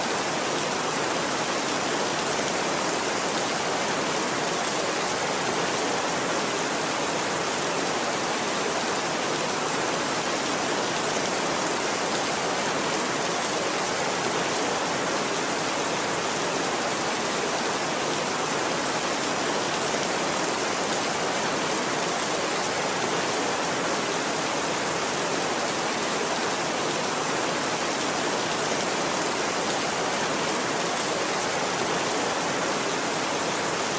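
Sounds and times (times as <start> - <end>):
steady rain hiss: 0.0 - 33.9.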